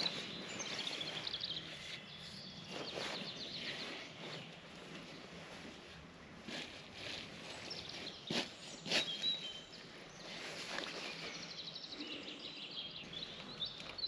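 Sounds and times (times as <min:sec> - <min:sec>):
birds singing: 0:00.0 - 0:14.0.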